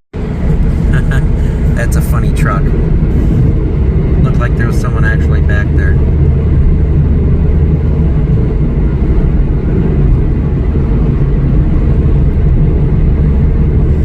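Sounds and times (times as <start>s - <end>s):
car engine and road noise: 0.1s - 14.0s.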